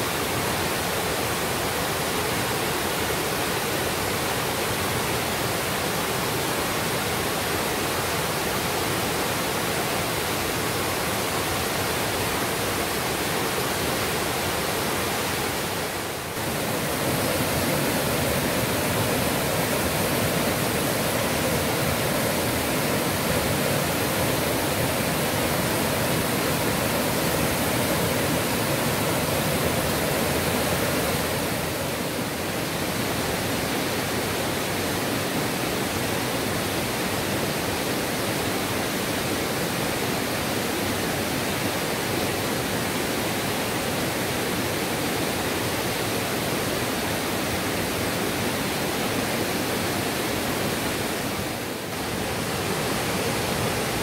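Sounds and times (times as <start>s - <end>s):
water rushing over boulders: 0.0s - 54.0s.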